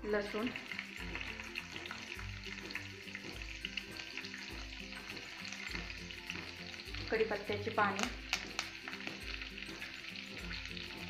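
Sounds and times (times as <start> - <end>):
faint background music: 0.0 - 11.0
garlic and seeds sizzling in oil: 0.0 - 11.0.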